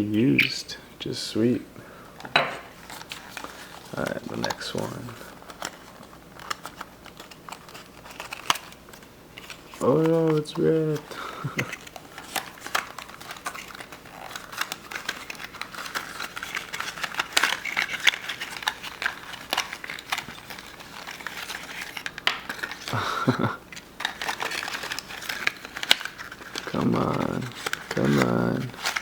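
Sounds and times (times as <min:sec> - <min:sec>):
plastic packaging crinkling: 0:02.2 - 0:29.0.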